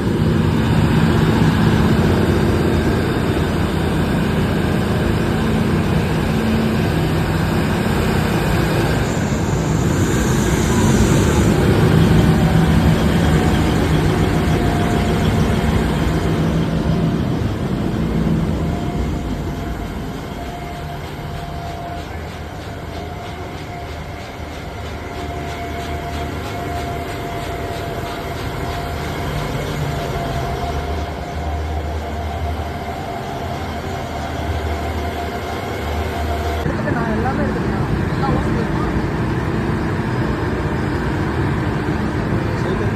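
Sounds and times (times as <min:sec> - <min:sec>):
mining excavator running: 0:00.0 - 0:42.9.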